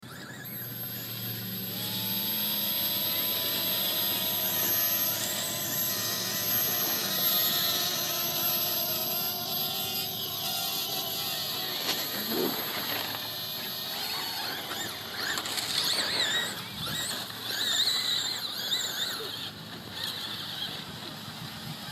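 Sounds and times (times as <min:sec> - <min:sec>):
drone propellers whirring: 0:00.0 - 0:21.9.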